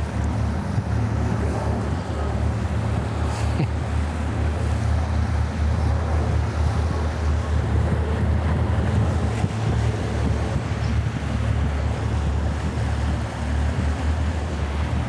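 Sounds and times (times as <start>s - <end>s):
diesel engines humming: 0.0s - 15.0s
wind buffeting microphone: 0.0s - 15.0s.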